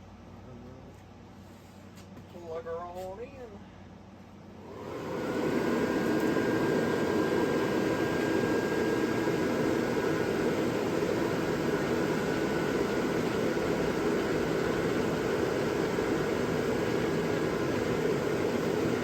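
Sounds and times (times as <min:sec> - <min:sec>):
blower fans rushing air: 0:00.0 - 0:19.0
faint fan whine: 0:00.0 - 0:19.0.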